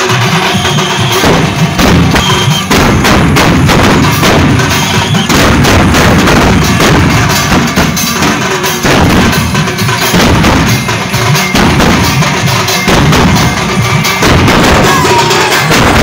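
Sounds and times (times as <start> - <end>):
drum band beating: 0.0 - 16.0.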